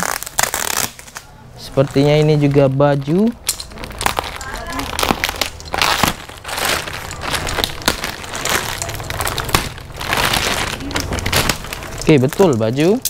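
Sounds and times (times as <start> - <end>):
plastic crinkling and tearing: 0.0 - 13.0
sharp plastic cracks: 0.0 - 13.0.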